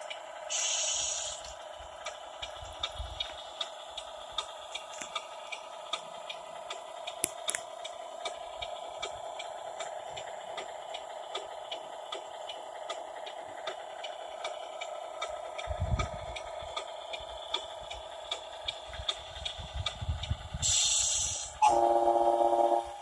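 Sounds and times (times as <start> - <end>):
light gear clicking: 0.0 - 21.6.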